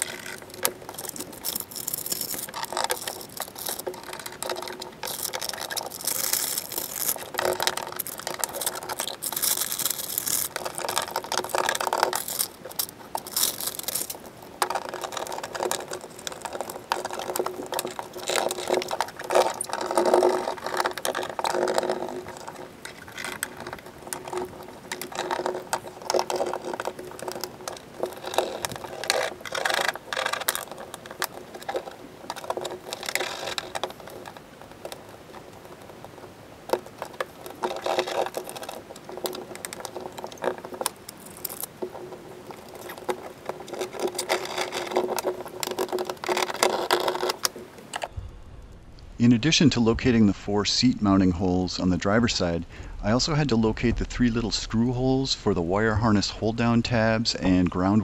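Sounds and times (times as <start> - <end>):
foil sheet rustling and crackling: 0.0 - 48.1.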